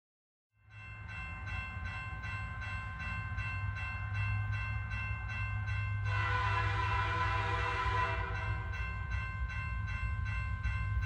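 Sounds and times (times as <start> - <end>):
train rumbling: 0.7 - 11.0.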